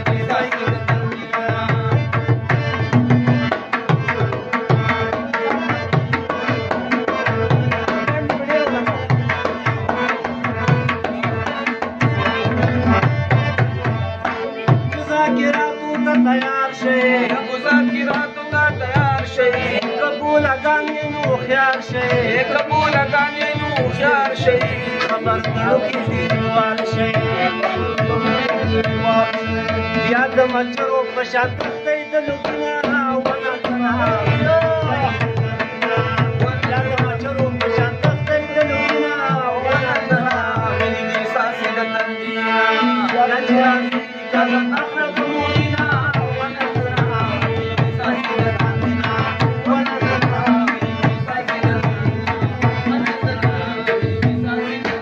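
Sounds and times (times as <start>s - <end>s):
harmonium drone and melody: 0.0s - 55.0s
tabla rhythmic strokes: 0.0s - 55.0s.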